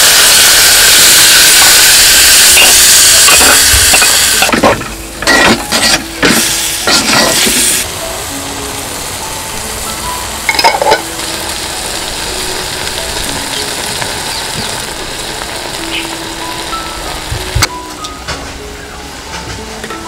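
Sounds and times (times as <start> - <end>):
meat sizzling in a pot: 0.0 - 17.7.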